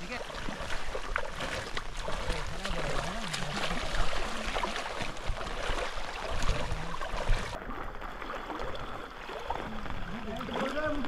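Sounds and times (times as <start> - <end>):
splashing and sloshing water: 0.0 - 11.0
stream water rushing: 0.0 - 11.0.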